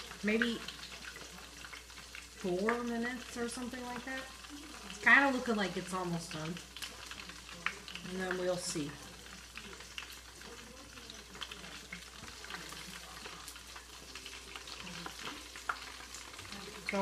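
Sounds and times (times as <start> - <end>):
hot oil sizzling and crackling: 0.0 - 17.0.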